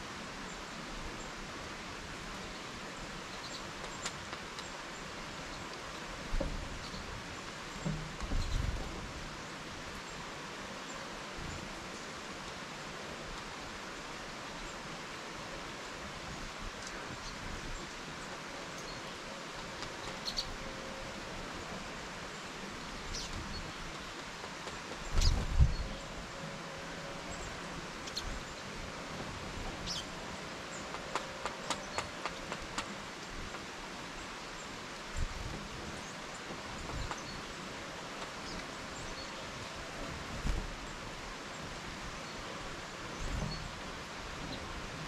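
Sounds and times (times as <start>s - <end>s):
outdoor background hiss: 0.0s - 45.0s
small birds calling: 2.3s - 13.1s, 16.7s - 29.0s, 29.6s - 40.2s, 40.8s - 44.8s.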